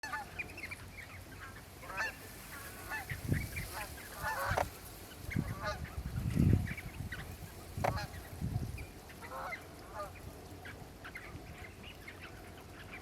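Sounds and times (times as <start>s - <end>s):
waterbirds calling: 0.0s - 13.0s.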